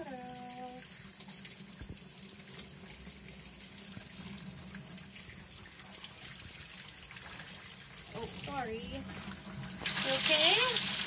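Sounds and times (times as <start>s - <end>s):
faucet running into sink: 0.0s - 11.0s.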